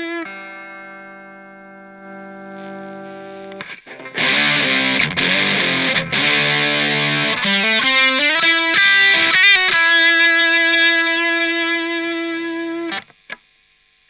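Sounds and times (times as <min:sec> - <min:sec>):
overdriven electric guitar notes: 0:00.0 - 0:13.2.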